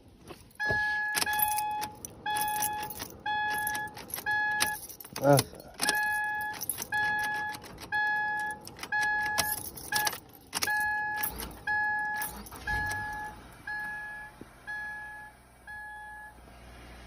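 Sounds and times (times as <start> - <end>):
car warning chime beeping: 0.5 - 16.5.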